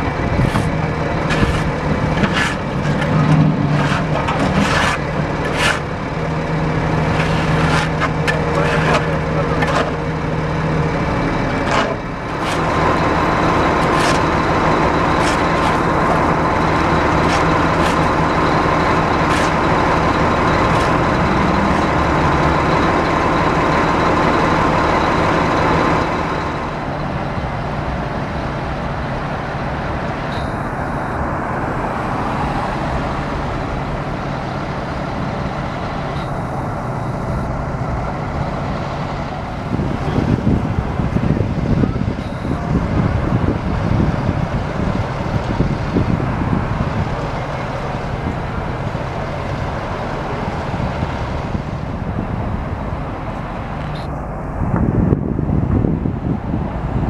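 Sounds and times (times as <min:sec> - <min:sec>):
diesel truck engine running: 0:00.0 - 0:57.0
traffic noise: 0:00.0 - 0:57.0.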